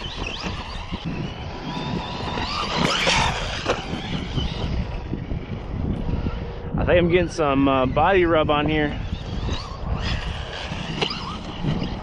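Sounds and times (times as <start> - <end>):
electric motor whining: 0.0 - 12.0
low rumble: 1.0 - 12.0.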